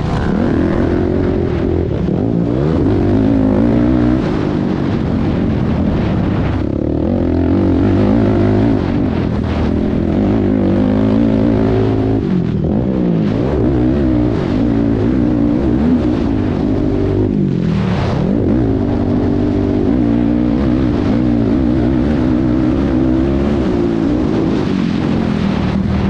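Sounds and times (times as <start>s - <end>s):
quad engine revving: 0.0s - 25.5s.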